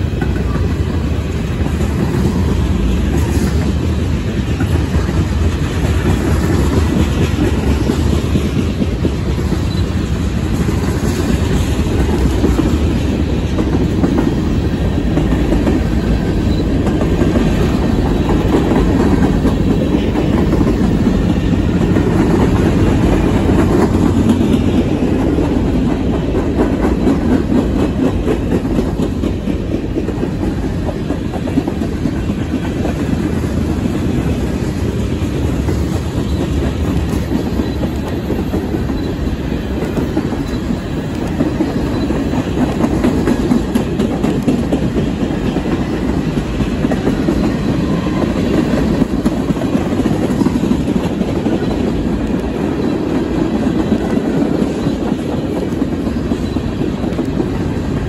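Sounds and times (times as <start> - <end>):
freight train cars rolling past: 0.0 - 58.0.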